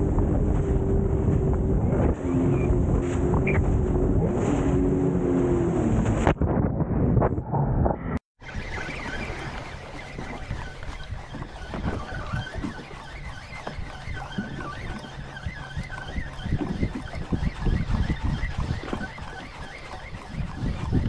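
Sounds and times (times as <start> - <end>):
watercraft engine humming: 0.0 - 6.3, 8.4 - 21.0.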